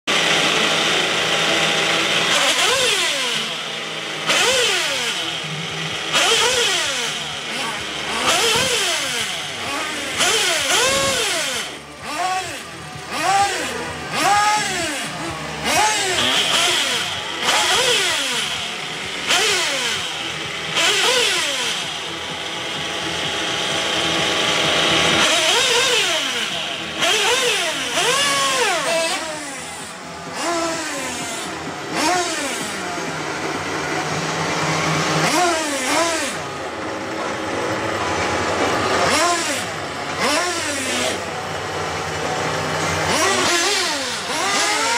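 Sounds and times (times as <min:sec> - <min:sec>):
high-pitched engine whine: 0:00.0 - 0:44.9
small engines revving: 0:00.0 - 0:44.9.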